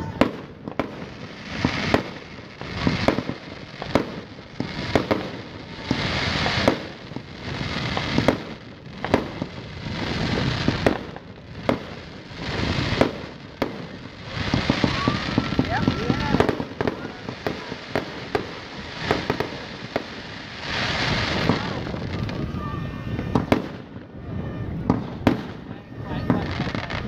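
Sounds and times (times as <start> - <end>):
firework crackling: 0.0 - 27.0.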